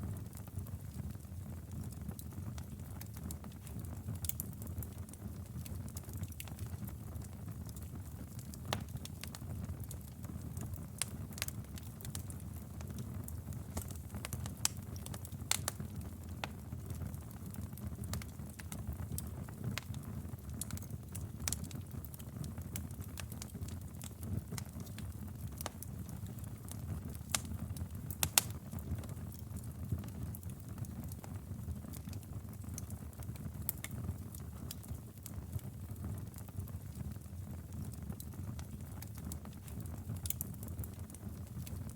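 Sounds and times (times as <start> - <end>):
low rumble of flames: 0.0 - 41.9
wood fire popping and snapping: 0.1 - 41.9.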